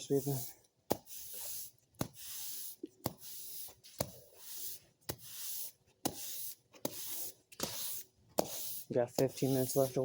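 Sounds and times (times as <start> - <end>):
broom sweeping floor: 0.0 - 10.0.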